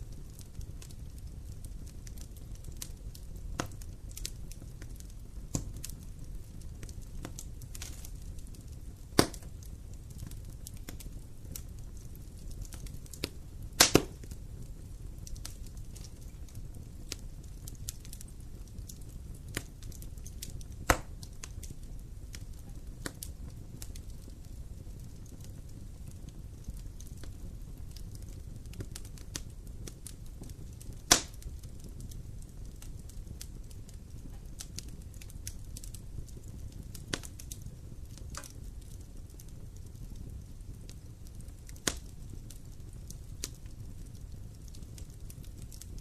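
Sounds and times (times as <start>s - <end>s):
campfire crackling: 0.0s - 46.0s.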